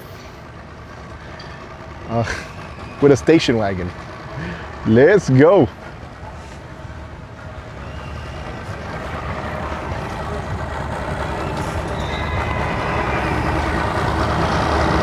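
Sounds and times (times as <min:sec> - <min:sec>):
outboard engines idling: 0:00.0 - 0:15.0.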